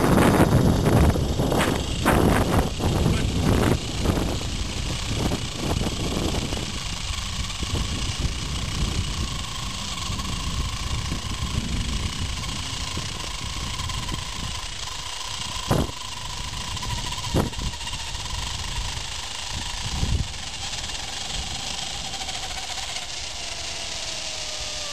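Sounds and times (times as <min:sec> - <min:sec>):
wind rumble on microphone: 0:00.0 - 0:22.8
zip-line pulleys whining on cable: 0:00.0 - 0:24.9.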